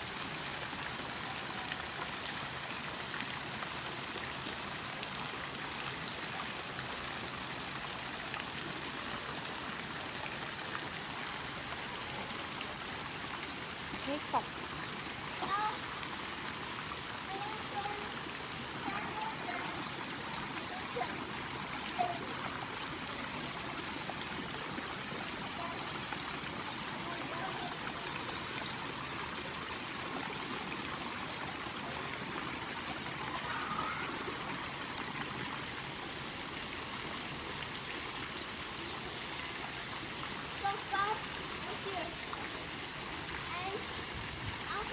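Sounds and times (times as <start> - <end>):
water trickling into pool: 0.0 - 44.9.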